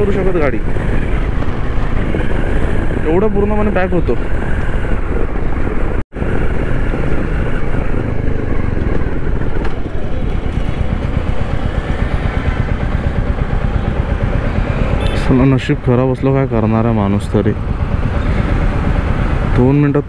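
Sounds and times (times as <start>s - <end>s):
motorcycle engine running: 0.0s - 20.0s
road noise: 0.0s - 20.0s.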